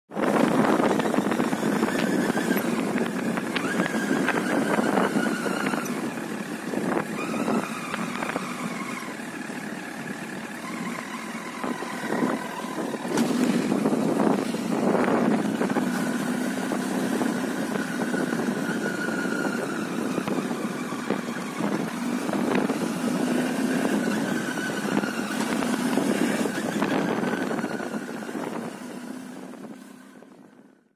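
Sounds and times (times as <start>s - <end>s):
high engine whine: 0.1s - 30.9s
motorcycle engine running: 0.1s - 30.9s.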